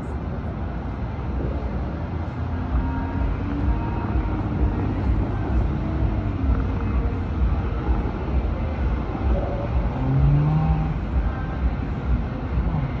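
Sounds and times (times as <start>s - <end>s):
distant city traffic: 0.0s - 13.0s.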